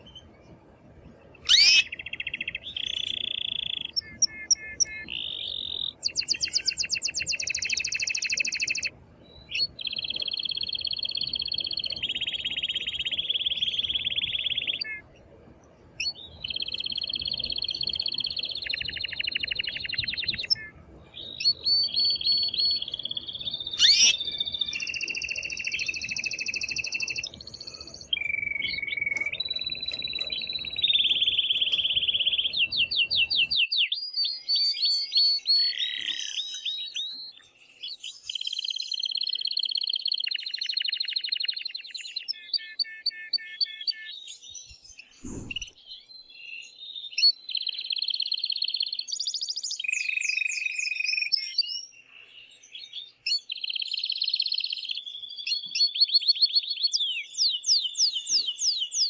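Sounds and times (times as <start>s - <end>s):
canary singing trills: 1.3s - 15.2s, 15.9s - 59.0s.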